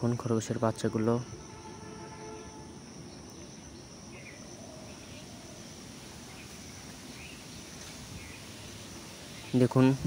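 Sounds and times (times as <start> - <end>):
crickets chirping: 0.0 - 10.0
low background noise: 0.0 - 10.0.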